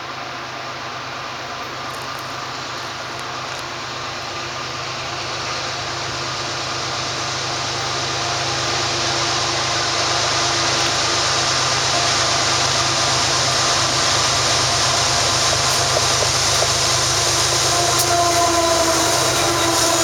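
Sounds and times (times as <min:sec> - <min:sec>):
diesel locomotive rumbling: 0:00.0 - 0:20.0.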